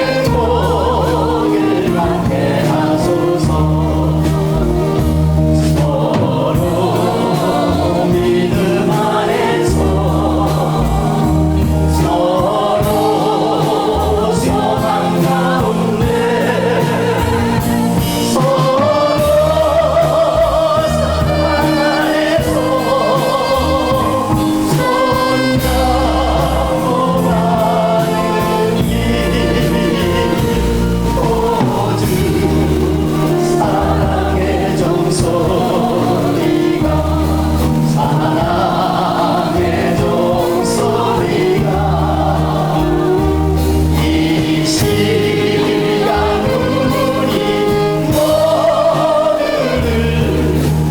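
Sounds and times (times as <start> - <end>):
choir singing a gospel hymn: 0.0 - 50.9
instrumental accompaniment: 0.0 - 50.9.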